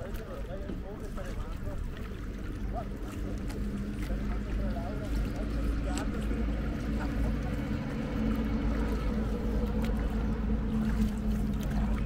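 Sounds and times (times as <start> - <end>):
steady low rumble: 0.0 - 12.0
water noise: 0.0 - 12.0.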